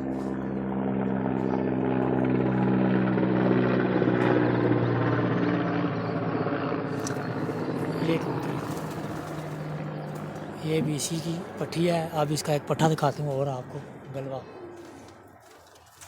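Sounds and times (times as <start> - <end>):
motor running with steady hum: 0.0 - 15.9.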